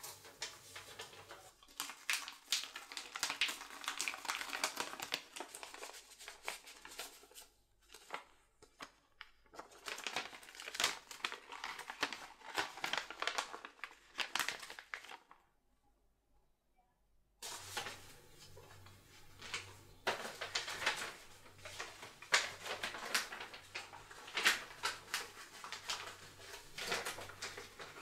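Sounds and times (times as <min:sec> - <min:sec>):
paper rustling and crinkling: 0:00.0 - 0:15.4, 0:17.4 - 0:28.0.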